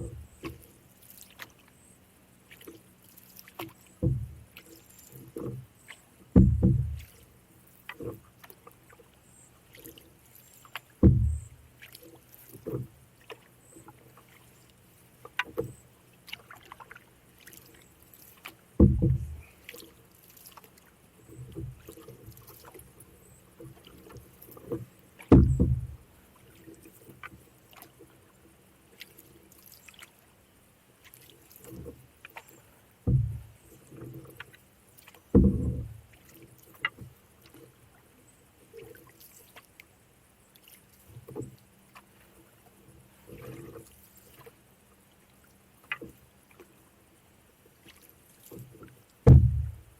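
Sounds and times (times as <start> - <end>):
paddle strokes surging water: 0.0 - 49.9.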